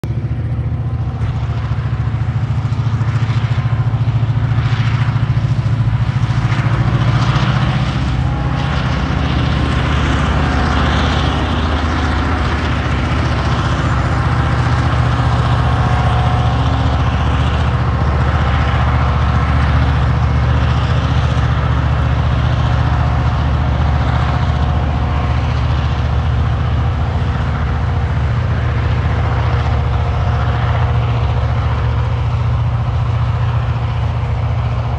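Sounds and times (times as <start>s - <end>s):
diesel locomotive engine drone: 0.0s - 34.9s.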